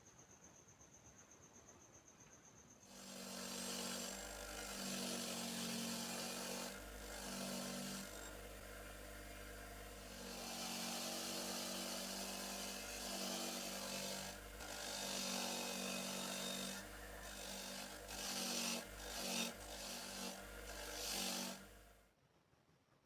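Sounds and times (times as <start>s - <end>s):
power tool grinding metal: 2.9s - 21.9s.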